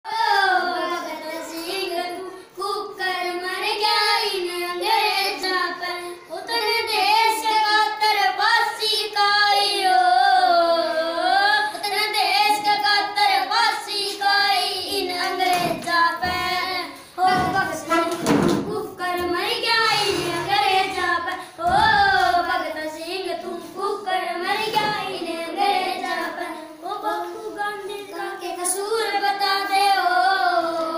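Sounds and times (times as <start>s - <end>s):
boys singing: 0.1s - 30.9s.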